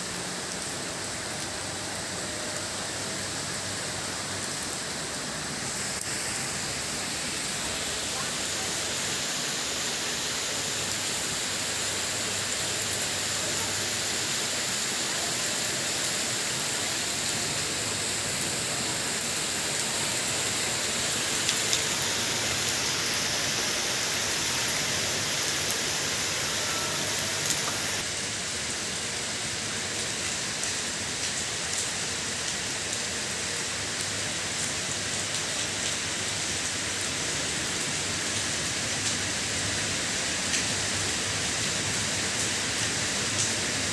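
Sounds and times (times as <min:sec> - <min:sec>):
rain hissing: 0:00.0 - 0:43.9.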